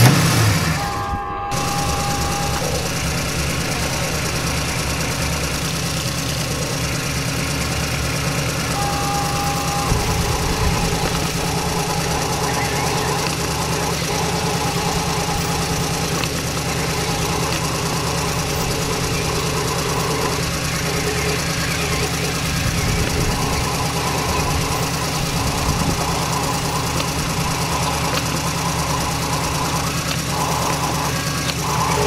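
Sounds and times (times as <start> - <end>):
toy truck motor humming: 0.0 - 32.0.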